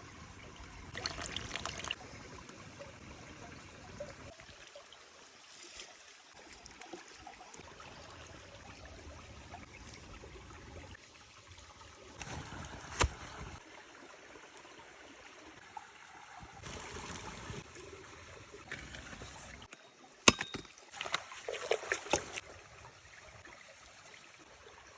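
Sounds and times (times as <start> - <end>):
stream flowing: 0.0 - 24.9.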